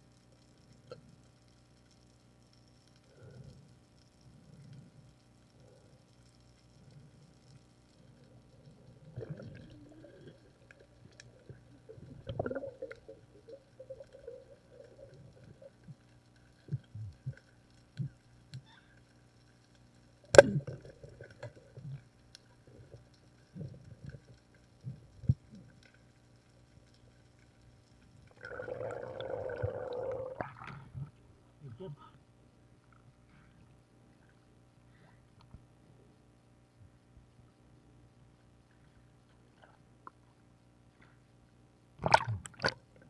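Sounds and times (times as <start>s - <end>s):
faint low underwater hum: 0.0s - 43.0s.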